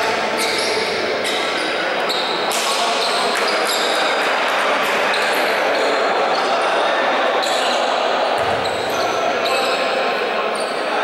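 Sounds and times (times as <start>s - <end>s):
steady hall noise: 0.0s - 11.0s.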